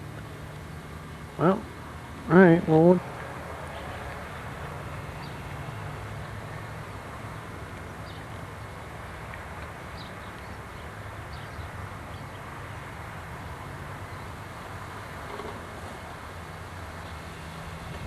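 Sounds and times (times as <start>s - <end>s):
distant motor humming: 0.0s - 18.0s.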